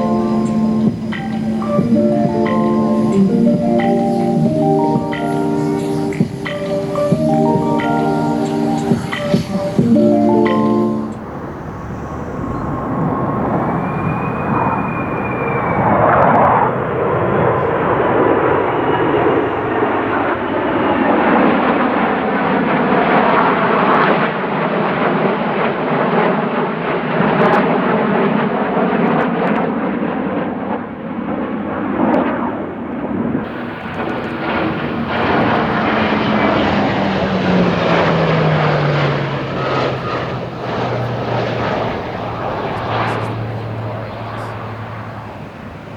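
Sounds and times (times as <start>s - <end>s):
aircraft engine flypast: 0.0s - 45.9s.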